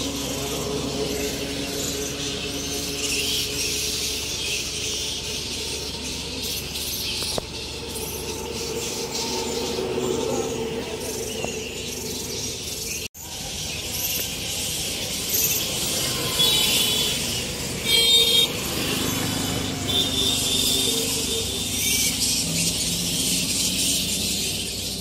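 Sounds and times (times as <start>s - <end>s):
fruit bats screeching: 0.0s - 25.0s.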